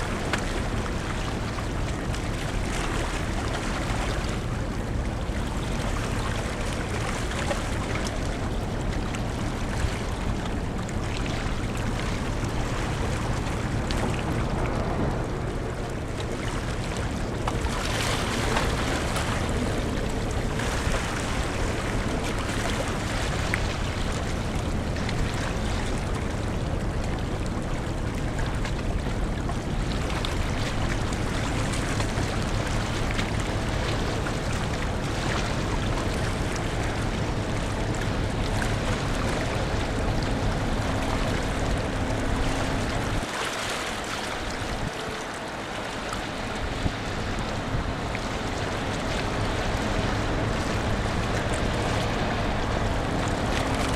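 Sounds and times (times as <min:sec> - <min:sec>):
ferry engine rumble: 0:00.0 - 0:53.9
rushing water: 0:00.0 - 0:53.9
wind: 0:00.0 - 0:53.9.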